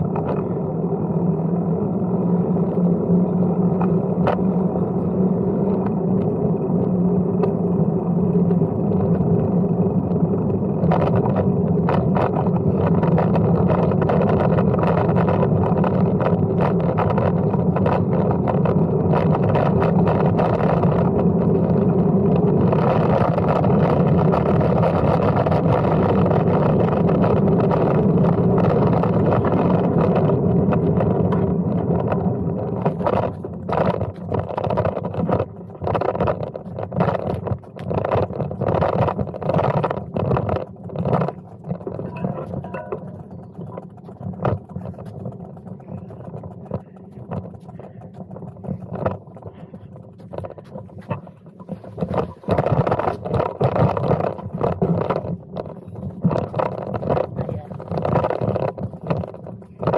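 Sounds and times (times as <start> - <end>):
folding bike being ridden: 0.0 - 59.9
wind on microphone: 0.0 - 59.9
small rattles: 2.6 - 59.9.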